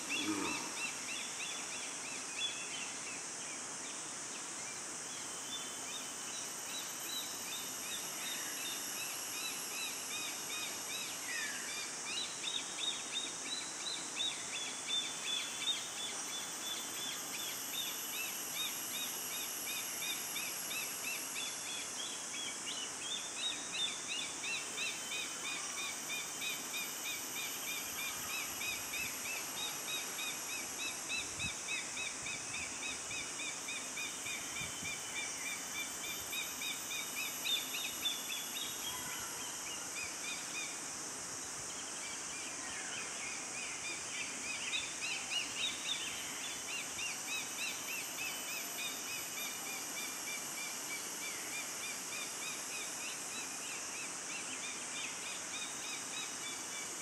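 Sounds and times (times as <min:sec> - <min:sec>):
forest ambience hiss: 0:00.0 - 0:57.0.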